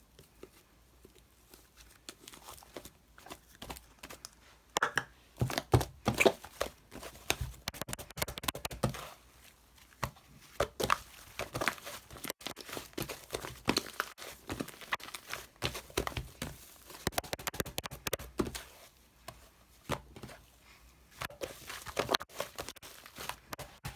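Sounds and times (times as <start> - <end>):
crinkling and scratching handling: 0.0 - 23.9.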